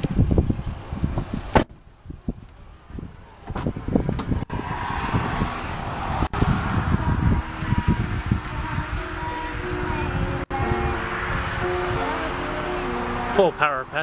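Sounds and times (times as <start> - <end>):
wind buffeting microphone: 0.0 - 13.3.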